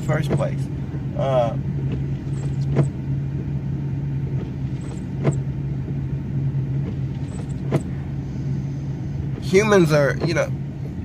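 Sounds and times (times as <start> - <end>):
van engine running: 0.0 - 11.0.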